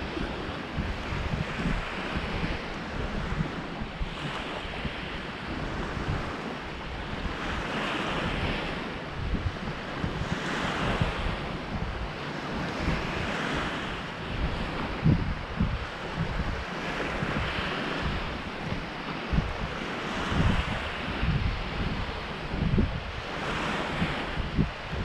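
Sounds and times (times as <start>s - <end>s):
waves breaking on a beach: 0.0s - 25.0s
wind buffeting microphone: 0.0s - 25.0s.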